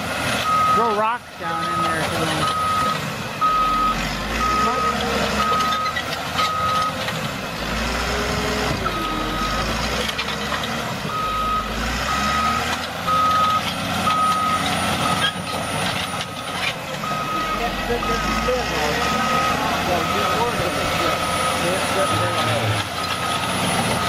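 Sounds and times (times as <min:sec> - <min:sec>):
reversing alarm beeping: 0:00.4 - 0:01.0, 0:01.6 - 0:07.0, 0:08.4 - 0:10.0, 0:11.1 - 0:24.0.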